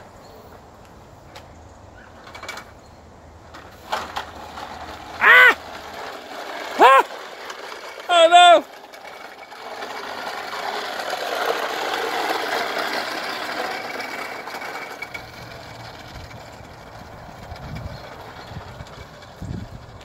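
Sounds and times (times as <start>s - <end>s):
toy lawnmower rattling on concrete: 1.9s - 20.0s.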